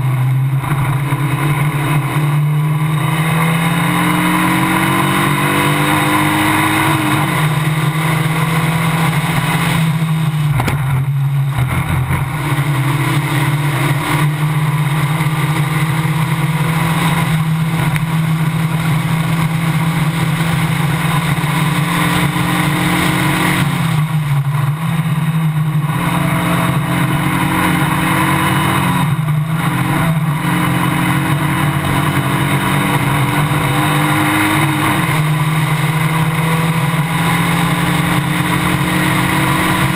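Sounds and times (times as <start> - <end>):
race car engine running hard: 0.0 - 39.9
wind and road noise: 0.0 - 39.9.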